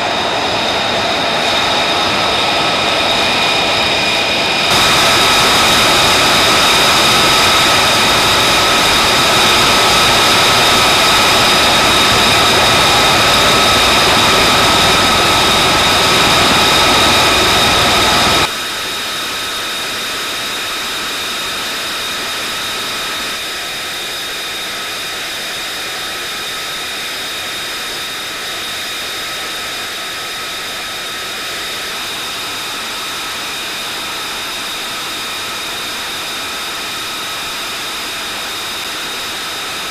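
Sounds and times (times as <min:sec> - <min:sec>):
jet engine roaring with whine: 0:00.0 - 0:39.9.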